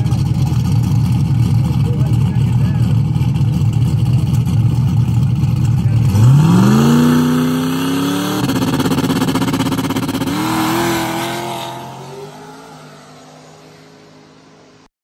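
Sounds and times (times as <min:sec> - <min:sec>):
drag car engine revving: 0:00.0 - 0:14.9.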